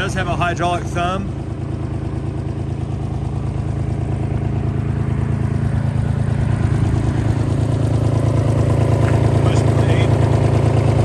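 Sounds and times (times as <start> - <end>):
diesel excavator idling: 0.0 - 11.0.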